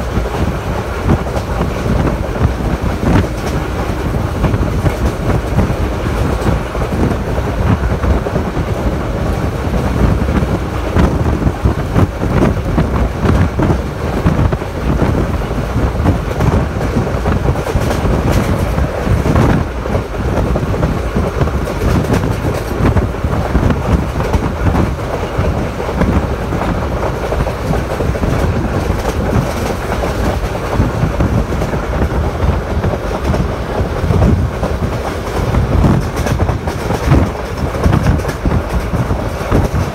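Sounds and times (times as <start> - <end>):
clicks of train wheels: 0.0 - 39.9
train wheels rumbling on rails: 0.0 - 39.9.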